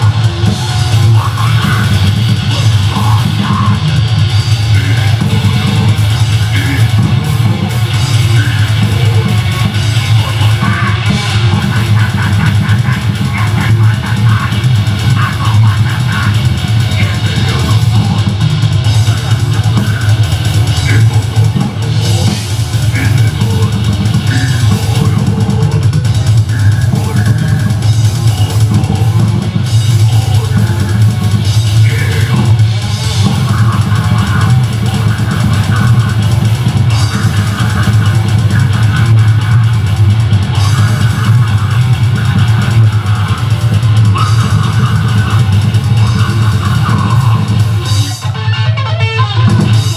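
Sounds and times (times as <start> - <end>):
bass guitar: 0.0 - 49.9
distorted electric guitar riffing: 0.0 - 49.9
drum kit: 0.0 - 49.9.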